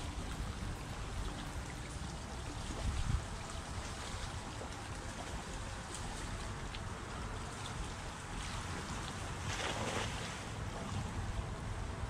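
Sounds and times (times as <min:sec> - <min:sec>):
small waves lapping: 0:00.0 - 0:12.0
wind rumble on microphone: 0:00.0 - 0:12.0.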